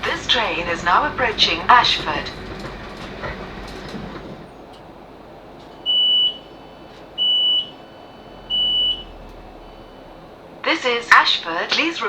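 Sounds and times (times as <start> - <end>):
train door warning beeps: 0.0 - 12.0
train rumbling to a stop: 0.0 - 12.0.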